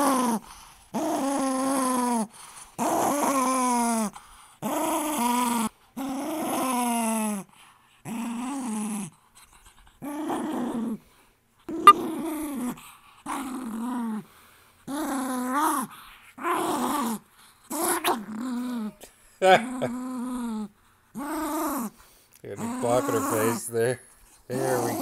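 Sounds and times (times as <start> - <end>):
dog growling: 0.0 - 9.1, 10.0 - 11.0, 12.2 - 14.3, 14.9 - 23.7, 24.5 - 25.0.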